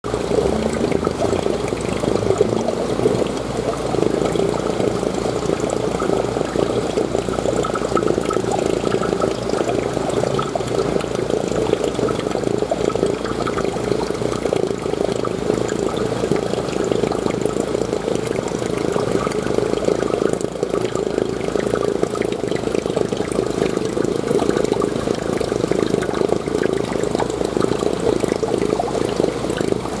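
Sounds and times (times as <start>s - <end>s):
water splashing and gurgling: 0.0s - 30.0s.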